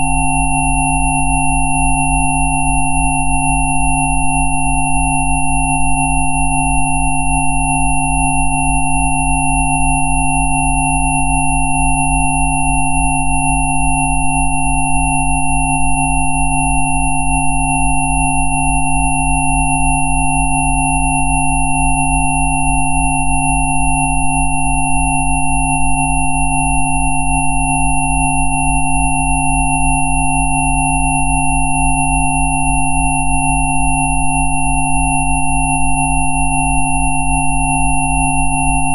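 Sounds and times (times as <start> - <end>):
mid-pitched sine tones: 0.0 - 38.9.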